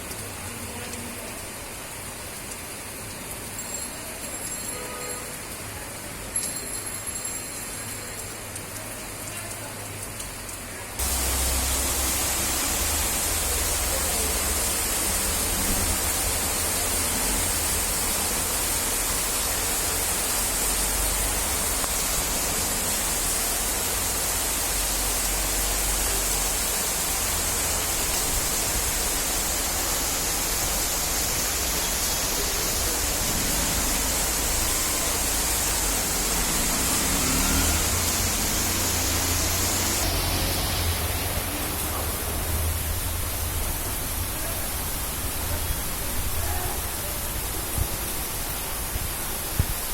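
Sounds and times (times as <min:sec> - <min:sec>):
heavy rain hiss: 0:00.0 - 0:06.6, 0:07.7 - 0:49.9.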